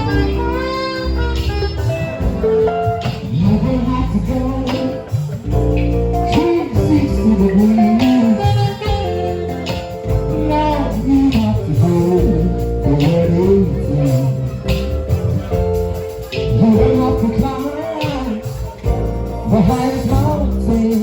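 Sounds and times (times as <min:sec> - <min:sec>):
guitar playing bending melody: 0:00.0 - 0:21.0
percussion pattern: 0:00.0 - 0:21.0.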